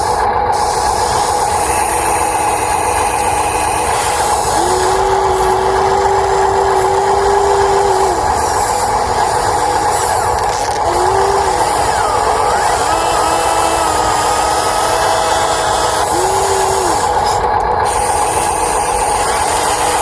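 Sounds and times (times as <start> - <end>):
electric motors whining: 0.0 - 20.0
lower motor whine: 0.0 - 20.0.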